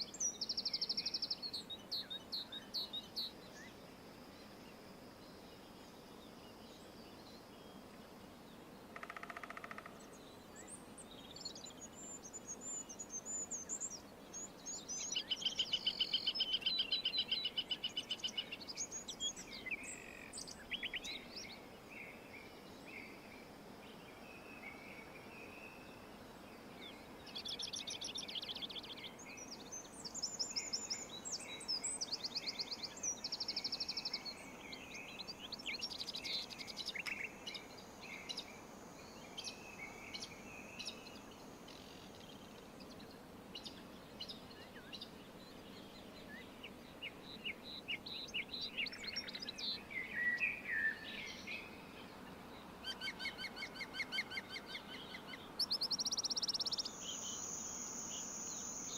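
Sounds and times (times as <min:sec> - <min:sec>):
faint background hiss: 0:00.0 - 0:58.9
songbirds chirping and trilling: 0:00.0 - 0:58.9.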